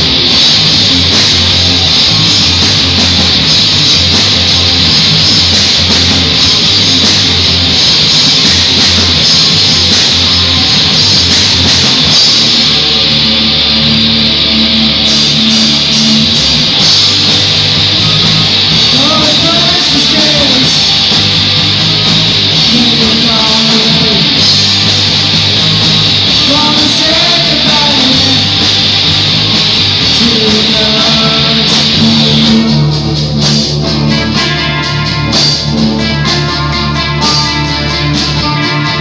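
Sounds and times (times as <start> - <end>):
cymbals: 0.0 - 39.0
heavy rock band playing: 0.0 - 39.0.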